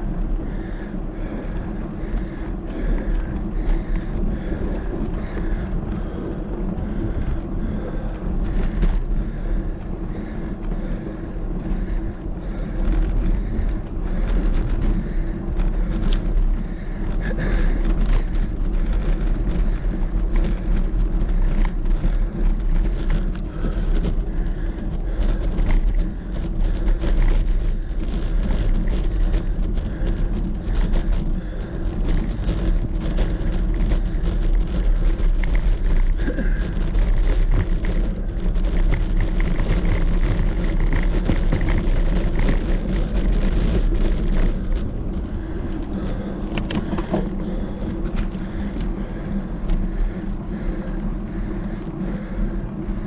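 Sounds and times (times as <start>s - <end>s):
bicycle tyre road noise: 0.0s - 53.0s
wind rumble on microphone: 0.0s - 53.0s.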